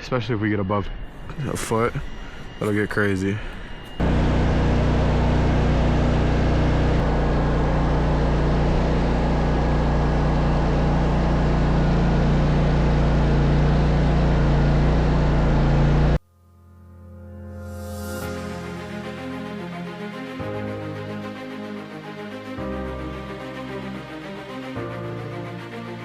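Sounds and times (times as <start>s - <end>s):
engine running with low hum: 1.1s - 16.2s, 17.9s - 26.0s.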